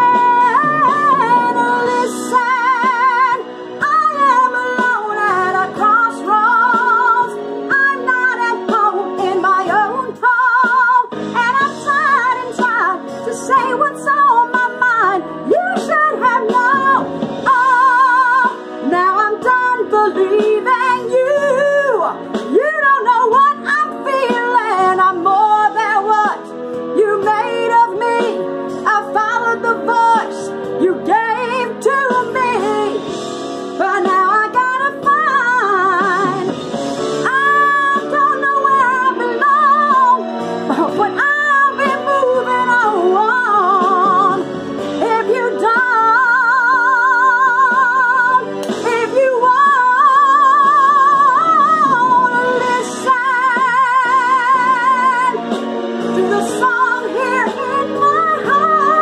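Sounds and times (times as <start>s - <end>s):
woman singing power ballad: 0.0s - 59.0s.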